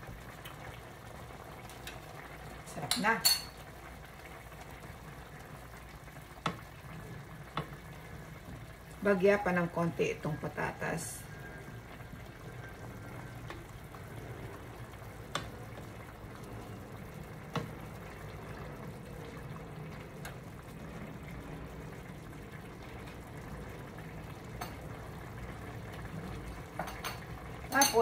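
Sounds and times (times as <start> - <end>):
stew bubbling in pot: 0.0 - 28.0.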